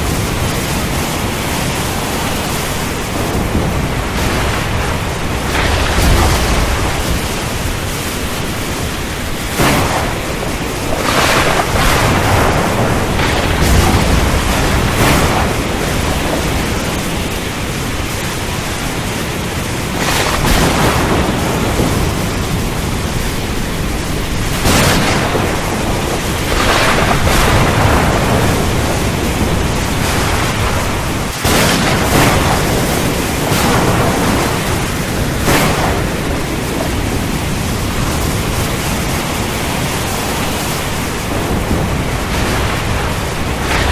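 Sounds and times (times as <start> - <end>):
low thunder rumbling: 0.0 - 43.9
rain roaring: 0.0 - 43.9
thunder cracks: 0.0 - 43.9.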